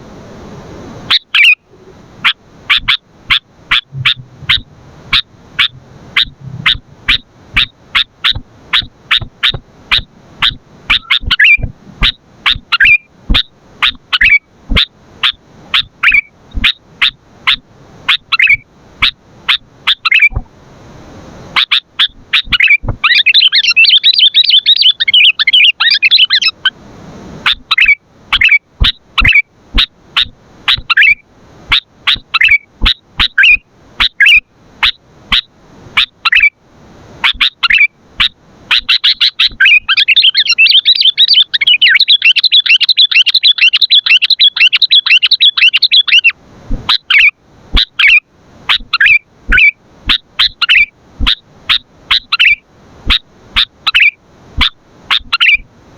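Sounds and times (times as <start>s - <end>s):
bird chattering: 1.1s - 20.4s, 21.6s - 26.7s, 27.5s - 29.4s, 30.2s - 33.6s, 37.2s - 55.6s
bird chirping: 1.1s - 20.4s, 21.6s - 26.7s, 27.5s - 29.4s, 30.2s - 31.2s, 32.1s - 33.6s, 37.2s - 55.6s.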